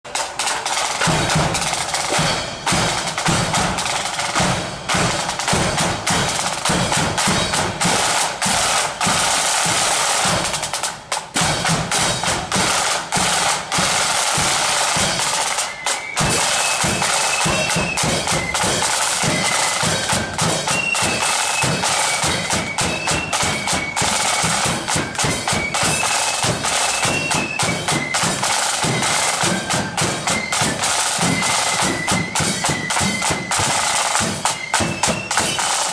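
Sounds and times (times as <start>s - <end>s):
flutes playing melody: 0.1s - 10.8s, 11.6s - 35.9s
snare drums rolling beat: 0.1s - 35.9s.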